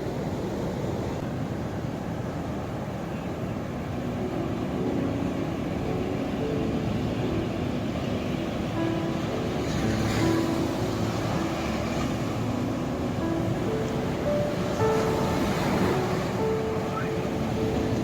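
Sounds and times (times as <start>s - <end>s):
ocean waves washing: 0.0s - 18.0s.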